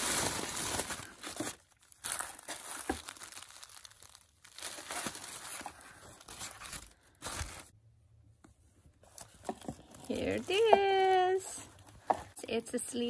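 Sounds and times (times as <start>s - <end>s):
tissue paper crinkling: 0.0s - 7.7s, 9.0s - 12.1s.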